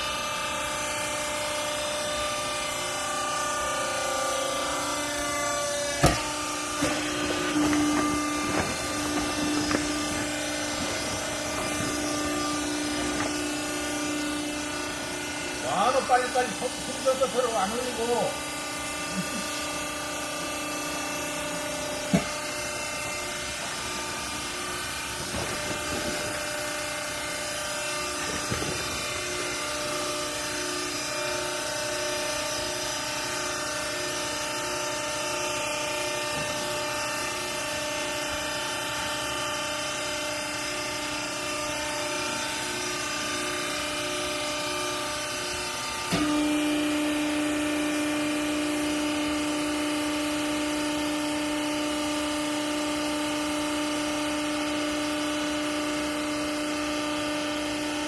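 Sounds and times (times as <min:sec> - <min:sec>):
hydraulic pump whining hum: 0:00.0 - 0:58.0.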